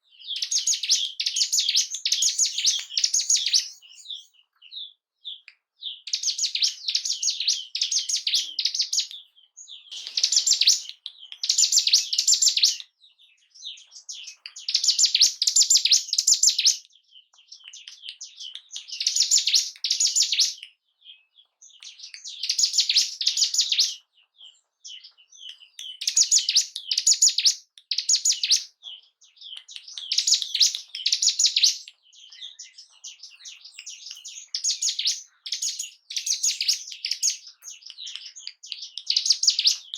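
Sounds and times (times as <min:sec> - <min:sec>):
bird singing rapid high trills: 0:00.0 - 0:05.0, 0:05.8 - 0:17.6, 0:18.2 - 0:24.1, 0:24.9 - 0:39.9.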